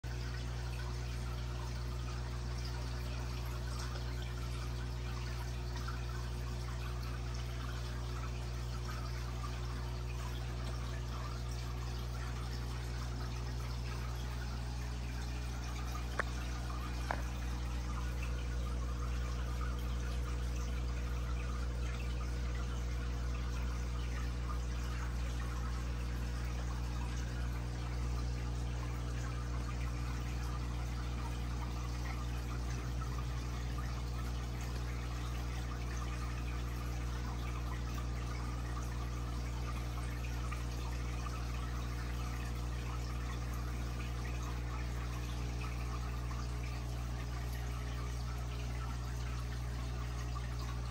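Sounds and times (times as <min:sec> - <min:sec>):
aquarium pump motor hum: 0:00.0 - 0:50.9
water trickling and splashing: 0:00.0 - 0:50.9.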